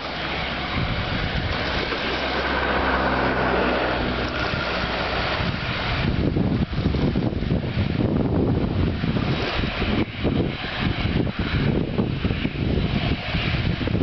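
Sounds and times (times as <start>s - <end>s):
jet engines running: 0.0s - 14.0s
wind buffeting microphone: 0.0s - 14.0s.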